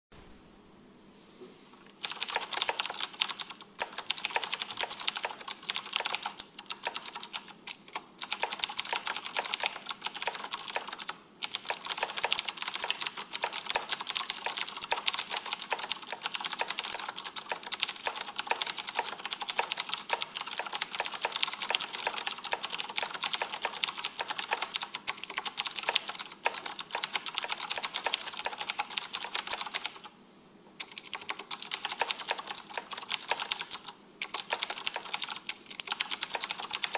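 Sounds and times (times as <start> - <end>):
fast typing on mechanical keyboard: 2.0 - 30.1, 30.8 - 36.9.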